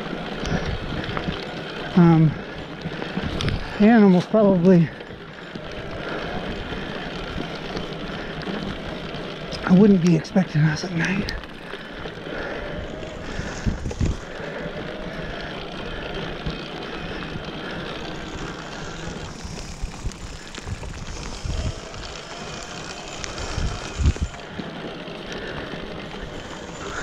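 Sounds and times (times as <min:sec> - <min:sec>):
bike tyre and drivetrain noise: 0:00.0 - 0:27.0.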